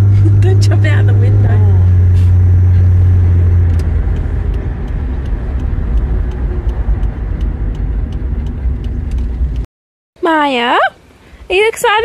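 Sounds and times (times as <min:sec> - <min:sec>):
engine and road noise: 0:00.0 - 0:12.0.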